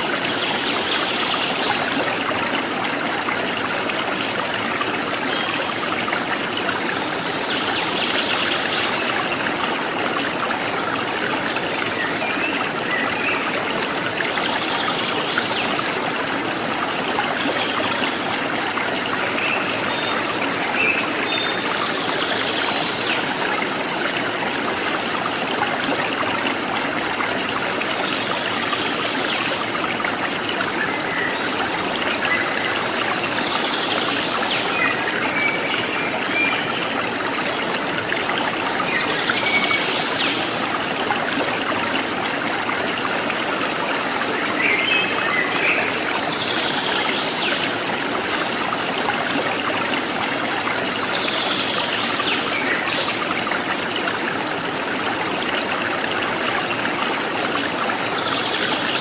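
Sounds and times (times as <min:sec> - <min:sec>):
forest stream babbling: 0:00.0 - 0:59.0.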